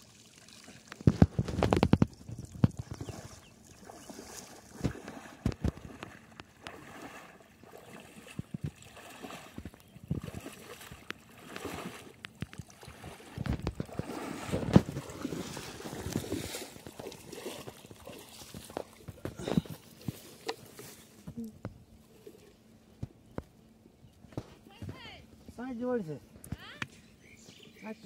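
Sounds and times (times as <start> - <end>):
wading through shallow water: 0.0 - 23.3.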